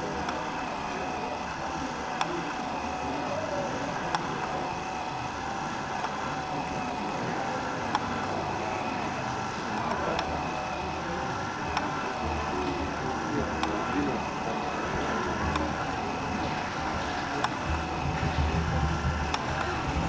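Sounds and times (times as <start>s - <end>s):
small electric drive humming: 0.0s - 20.0s.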